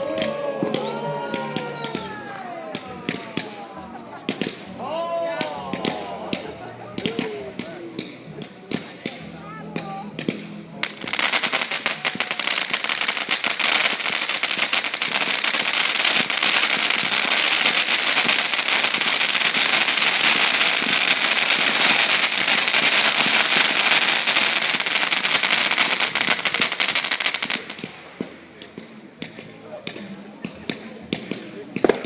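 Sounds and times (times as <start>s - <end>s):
fireworks crackling: 0.0s - 32.0s.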